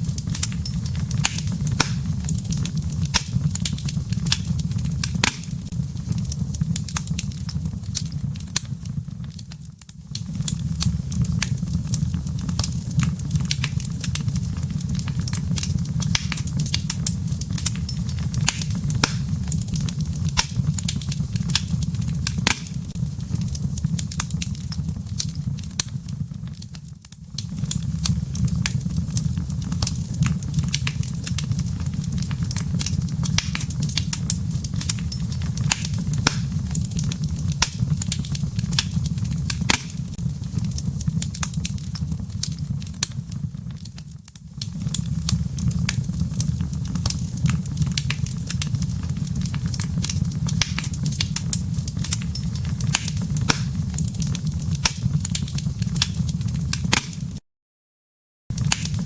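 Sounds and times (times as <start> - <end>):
fire crackling and popping: 0.0 - 57.4, 58.5 - 59.0.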